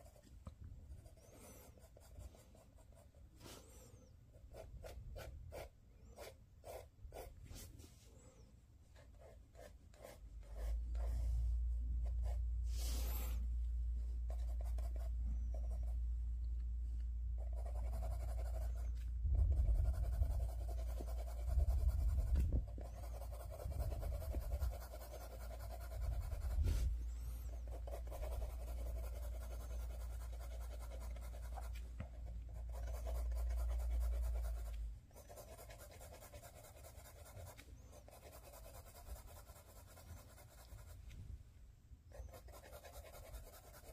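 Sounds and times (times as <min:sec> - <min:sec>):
pencil scratching on paper: 0:00.0 - 0:00.2, 0:00.9 - 0:07.8, 0:09.0 - 0:11.4, 0:12.0 - 0:13.4, 0:14.3 - 0:16.0, 0:17.4 - 0:41.0, 0:42.1 - 0:43.9.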